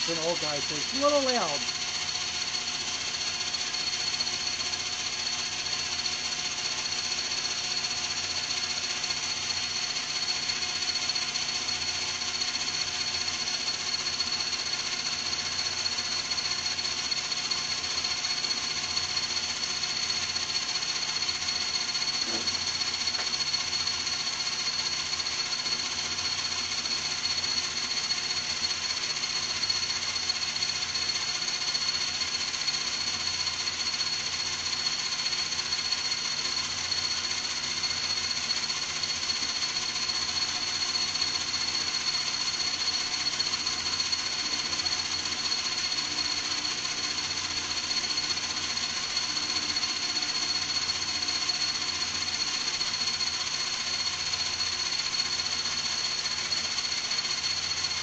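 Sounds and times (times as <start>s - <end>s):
metal lathe whine and hum: 0.0s - 58.0s.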